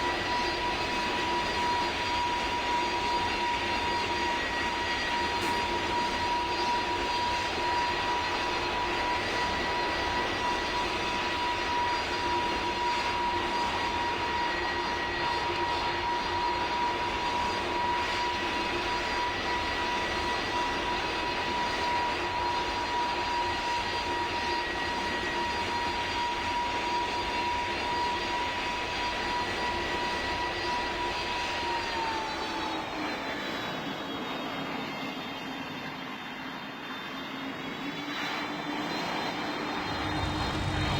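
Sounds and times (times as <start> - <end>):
jet engines roaring with whine: 0.0 - 40.9.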